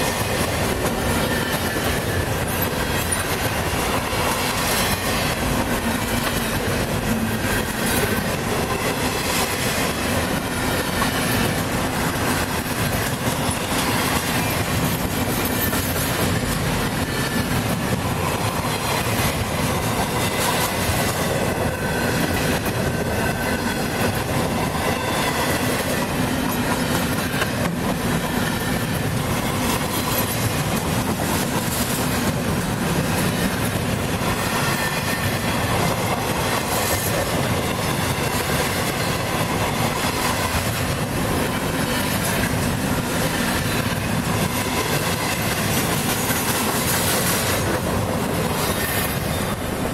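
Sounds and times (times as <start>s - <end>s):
freight train wheels rolling: 0.0s - 49.9s.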